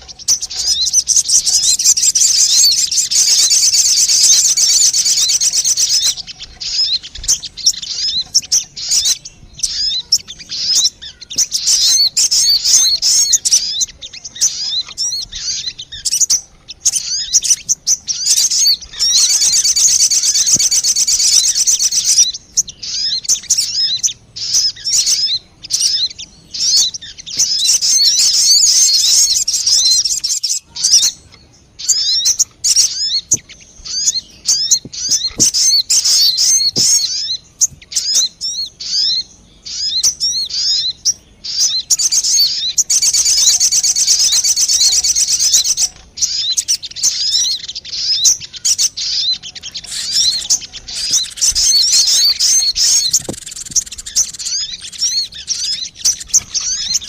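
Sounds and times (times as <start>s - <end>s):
bird chirping and twittering: 0.0s - 57.0s.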